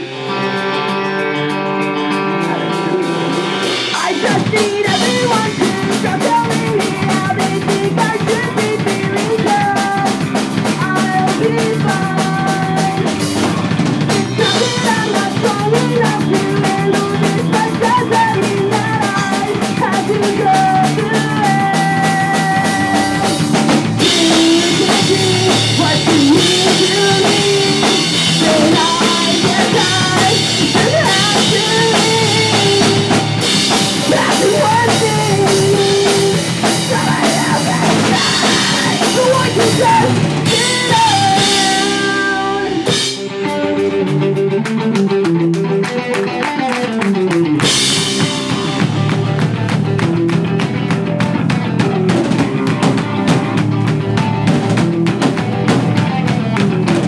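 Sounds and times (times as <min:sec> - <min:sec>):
bass guitar: 0:00.0 - 0:57.0
distorted electric guitars: 0:00.0 - 0:57.0
drum kit beats: 0:00.0 - 0:57.0
sung vocals: 0:00.0 - 0:57.0.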